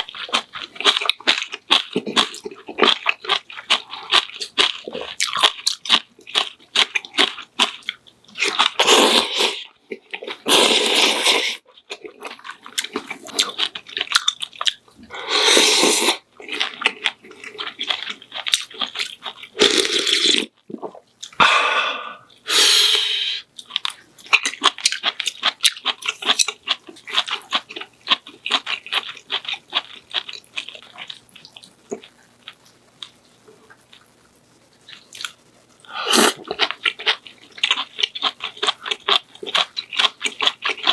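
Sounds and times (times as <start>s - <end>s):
person chewing: 0.0s - 40.9s.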